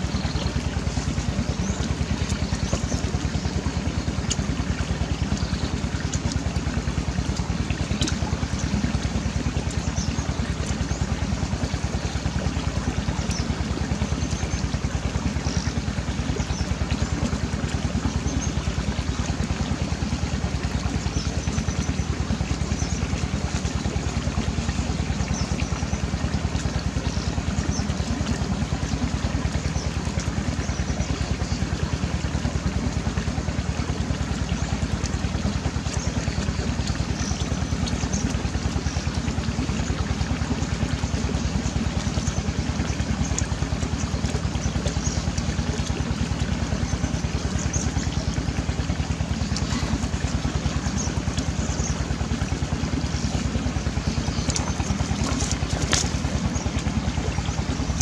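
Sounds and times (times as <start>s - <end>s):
small engine running steadily: 0.0s - 58.0s.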